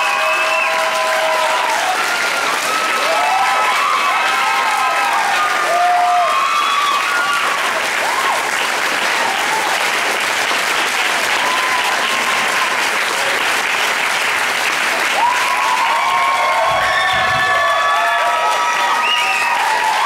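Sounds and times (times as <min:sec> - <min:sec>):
audience cheering and whooping: 0:00.0 - 0:10.2, 0:11.1 - 0:13.4, 0:14.9 - 0:20.0
audience applauding: 0:00.0 - 0:20.0.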